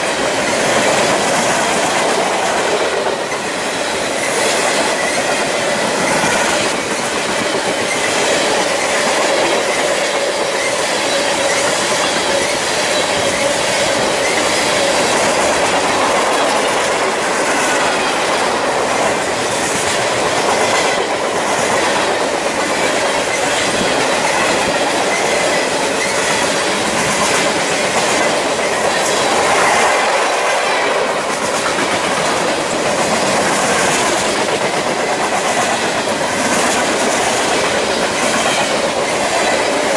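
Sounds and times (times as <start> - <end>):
freight train rolling past: 0.0 - 39.9
wheels clacking over rail joints: 0.0 - 39.9.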